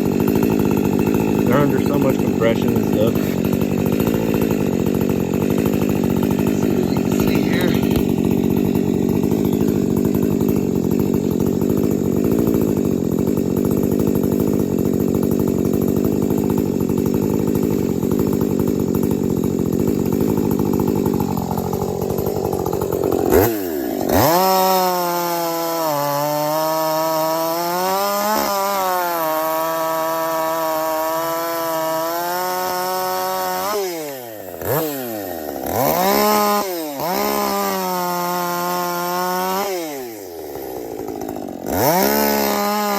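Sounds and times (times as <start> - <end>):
chainsaw cutting wood: 0.0 - 42.9
chainsaw revving high: 0.0 - 42.9.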